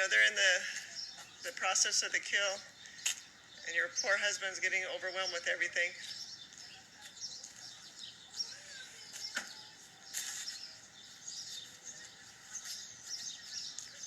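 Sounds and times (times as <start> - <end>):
faint outdoor background noise: 0.0 - 14.0
small birds chirping: 0.0 - 14.0.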